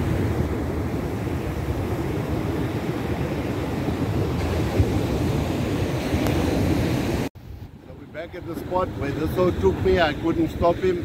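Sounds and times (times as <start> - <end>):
ocean surf on beach: 0.0 - 11.0
wind on microphone: 0.0 - 11.0.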